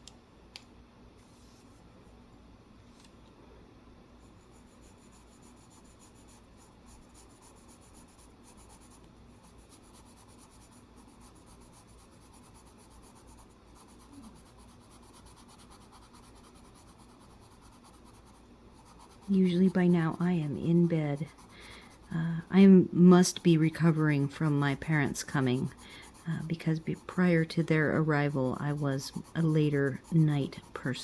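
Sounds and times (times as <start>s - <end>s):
colored pencils scratching on paper: 4.2s - 31.0s.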